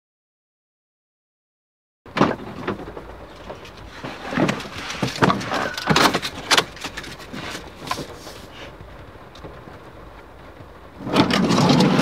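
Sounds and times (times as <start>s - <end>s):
clicks and rustles: 2.1s - 12.0s.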